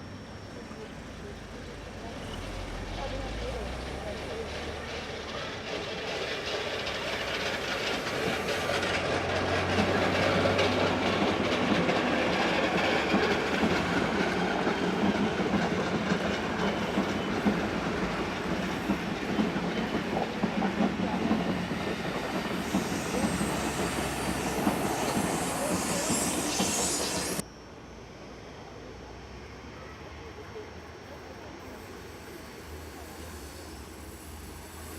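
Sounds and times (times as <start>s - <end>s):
train running on rails: 0.0s - 34.9s.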